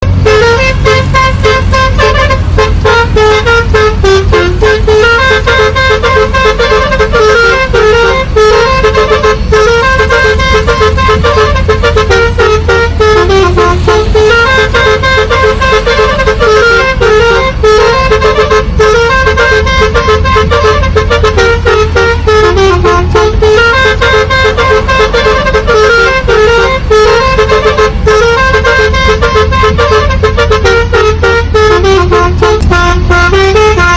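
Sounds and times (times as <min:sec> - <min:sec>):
multi-tone bus horn tune: 0:00.0 - 0:33.9
steady low rumble: 0:00.0 - 0:33.9.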